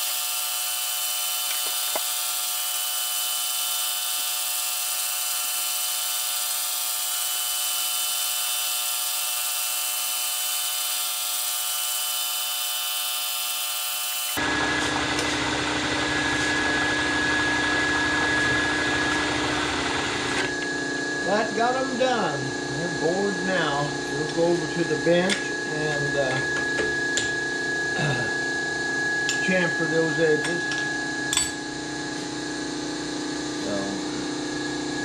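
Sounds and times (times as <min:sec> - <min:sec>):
milling machine boring metal: 0:00.0 - 0:27.9, 0:29.0 - 0:31.6
motor hum with high whine: 0:00.0 - 0:35.0.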